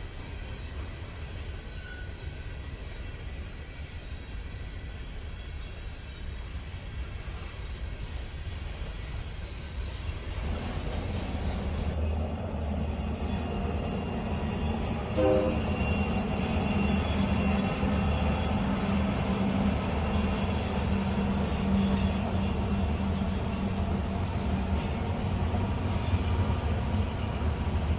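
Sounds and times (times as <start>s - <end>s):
freight train engine rumble: 0.0s - 27.9s
steel wheel squeal: 0.4s - 7.6s, 9.0s - 27.6s.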